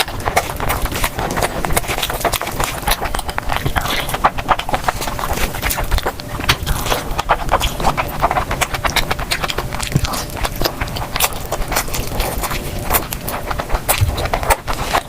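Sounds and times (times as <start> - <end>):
chewing and mouth clicks: 0.0 - 15.0.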